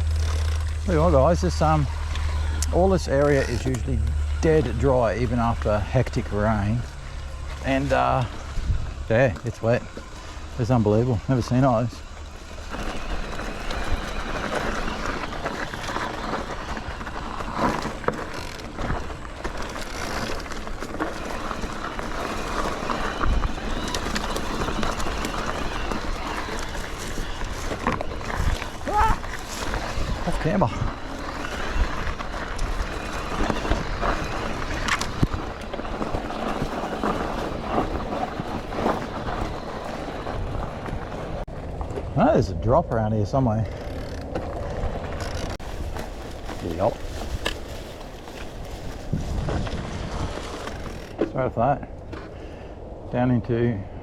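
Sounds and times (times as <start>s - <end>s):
bike tyres rolling on dirt: 0.0s - 54.0s.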